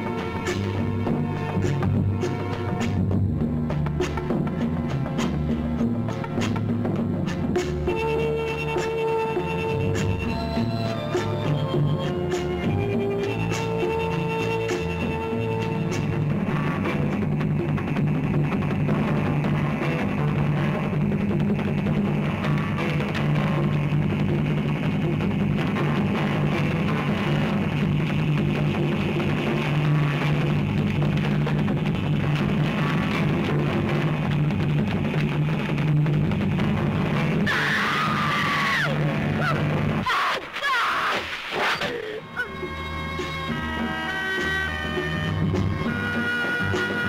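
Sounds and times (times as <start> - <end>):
rock music with drums and guitar: 0.0 - 40.1, 42.4 - 47.0.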